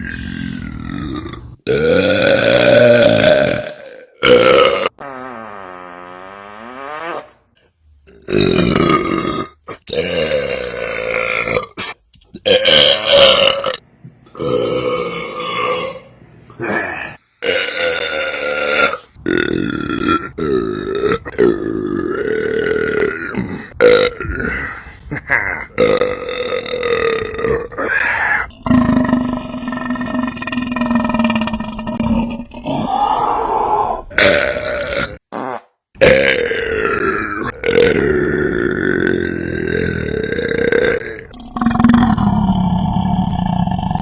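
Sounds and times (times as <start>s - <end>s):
long belches: 0.0s - 5.1s, 8.0s - 33.1s, 34.1s - 44.0s.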